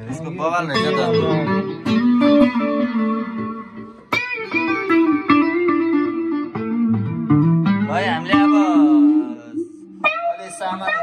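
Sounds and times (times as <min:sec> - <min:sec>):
electric guitar single-note lines: 0:00.0 - 0:11.0.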